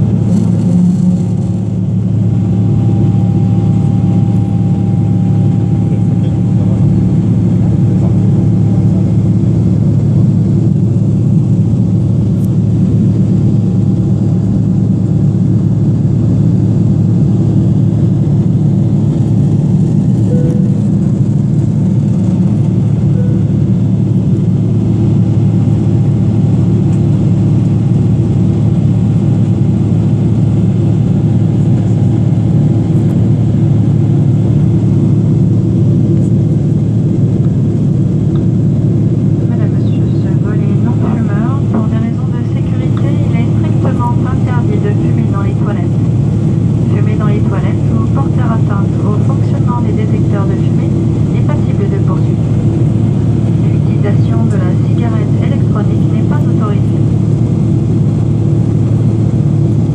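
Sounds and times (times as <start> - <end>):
jet engines roaring in cabin: 0.0 - 59.9.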